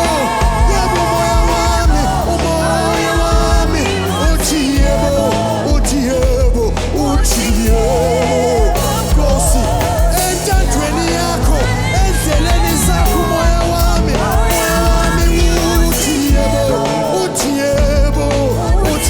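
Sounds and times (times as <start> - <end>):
gospel band with bass and drums: 0.0 - 19.0
person singing wavering vocal: 0.0 - 19.0.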